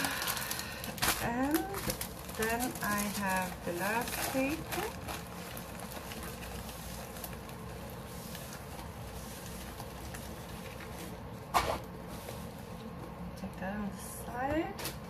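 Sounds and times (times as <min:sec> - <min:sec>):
handling rolled canvas: 0:00.1 - 0:13.2.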